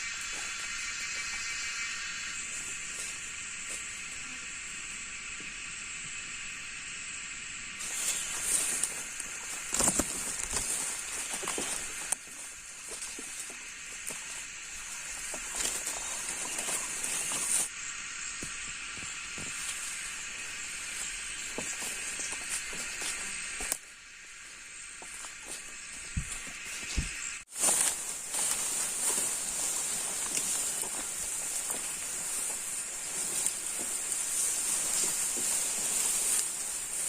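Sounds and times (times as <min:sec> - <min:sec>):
footsteps through wet undergrowth: 0:00.0 - 0:04.2, 0:07.8 - 0:17.7, 0:18.4 - 0:37.0
steady high hiss: 0:00.0 - 0:37.0.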